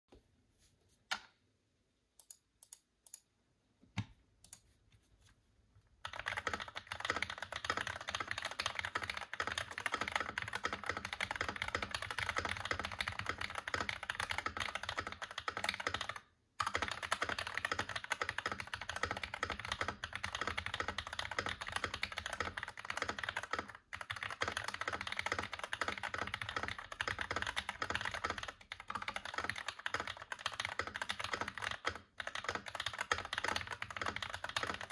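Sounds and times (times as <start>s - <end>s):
mechanical keyboard typing: 6.0s - 34.9s.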